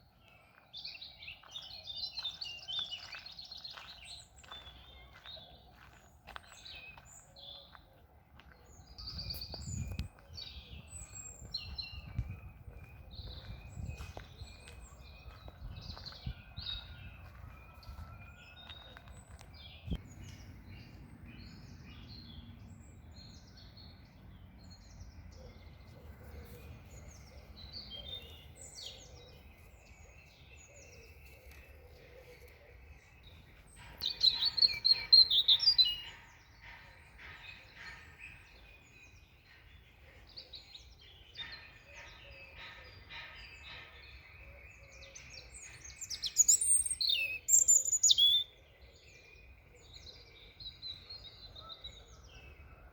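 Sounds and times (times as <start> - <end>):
songbirds chirping and singing: 0.0 - 52.9.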